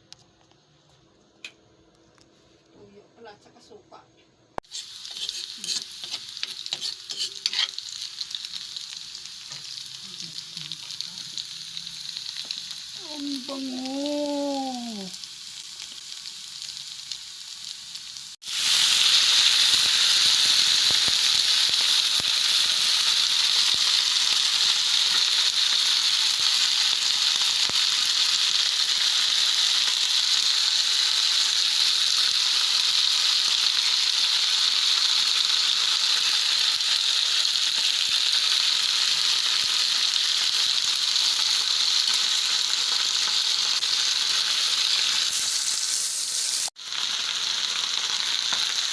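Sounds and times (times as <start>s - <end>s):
food sizzling in hot oil: 4.6s - 48.9s.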